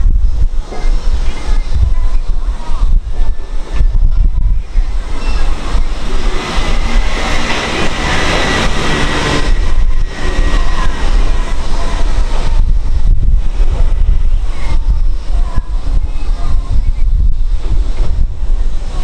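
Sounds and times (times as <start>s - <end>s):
broad rushing noise: 0.0s - 19.0s
wind buffeting microphone: 0.0s - 19.0s.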